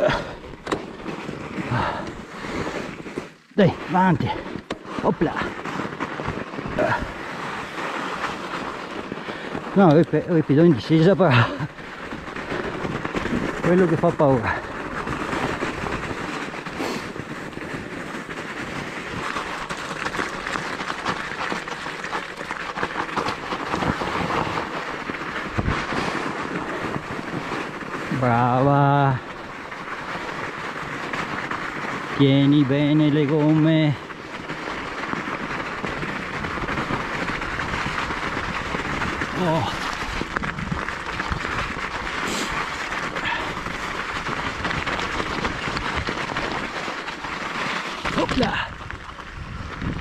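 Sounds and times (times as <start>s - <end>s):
bike tyres crunching on stones: 0.0s - 50.0s.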